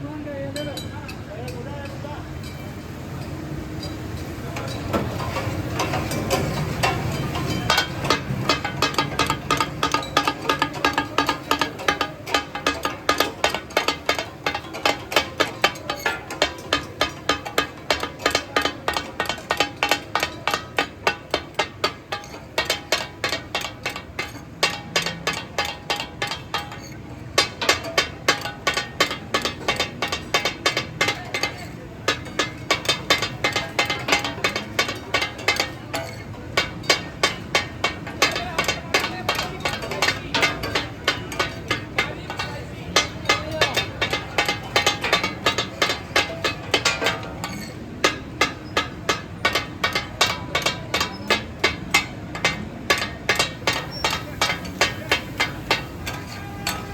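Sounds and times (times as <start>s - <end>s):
metal spatulas beating on griddle: 3.8s - 56.9s.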